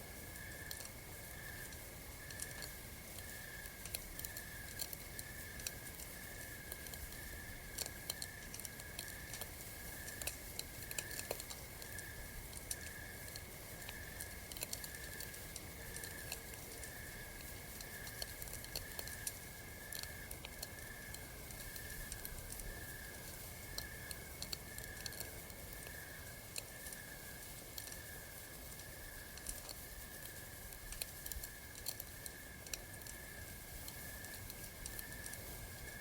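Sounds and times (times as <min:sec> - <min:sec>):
campfire crackling and popping: 0:00.3 - 0:36.0.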